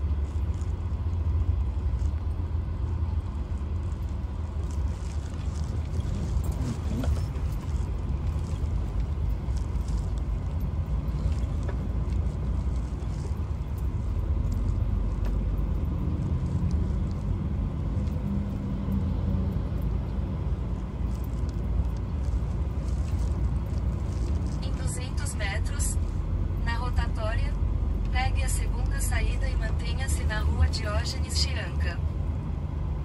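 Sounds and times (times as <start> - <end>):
truck engine rumble and road noise: 0.0 - 33.0.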